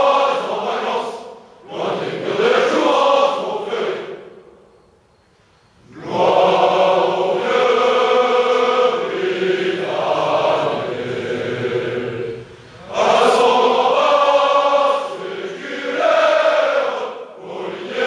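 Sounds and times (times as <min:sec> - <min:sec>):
group of men singing: 0:00.0 - 0:04.1, 0:05.9 - 0:18.0.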